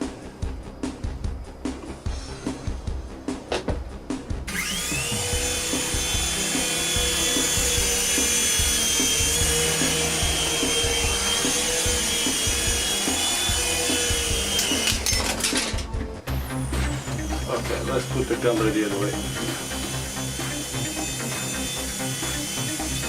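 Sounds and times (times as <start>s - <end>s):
small electric motors whining: 4.5s - 23.0s.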